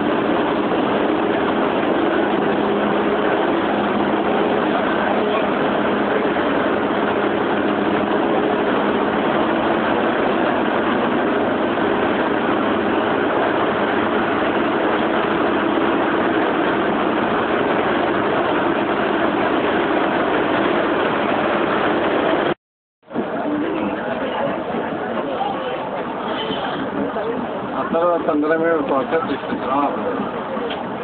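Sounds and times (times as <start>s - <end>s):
train mechanical hum and rumble: 0.0s - 31.0s.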